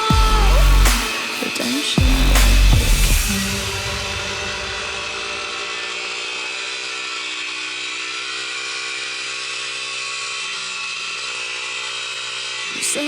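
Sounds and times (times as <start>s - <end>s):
small motorbike engine buzzing: 0.0s - 13.0s.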